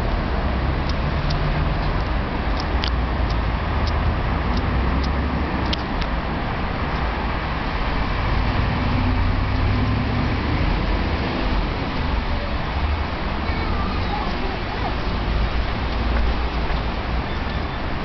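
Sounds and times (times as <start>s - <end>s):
vehicle rumble and hiss: 0.0s - 18.0s.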